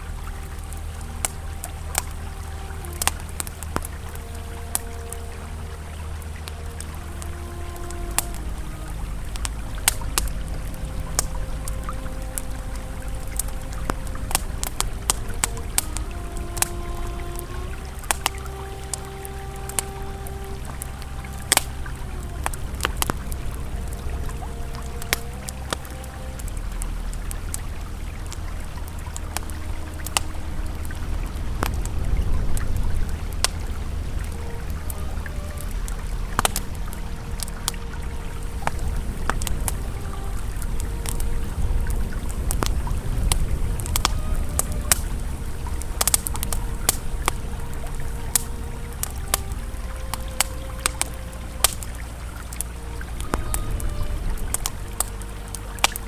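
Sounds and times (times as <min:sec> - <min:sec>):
ambient music tones: 0:00.0 - 0:56.0
campfire crackling and popping: 0:00.0 - 0:56.0
river flowing: 0:00.0 - 0:56.0.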